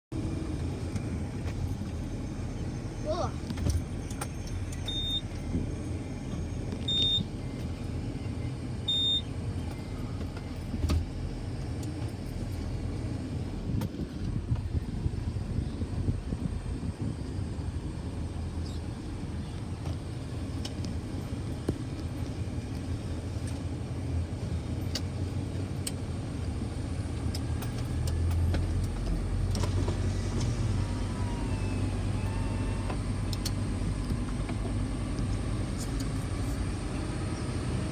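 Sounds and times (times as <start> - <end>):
truck engine rumble inside cab: 0.1 - 37.9.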